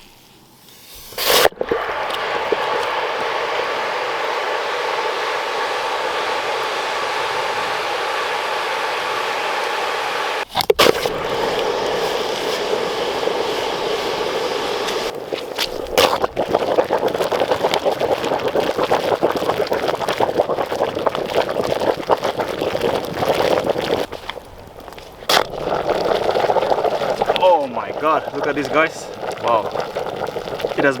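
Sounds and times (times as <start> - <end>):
water boiling with bubbling and sizzling: 0.0 - 31.0.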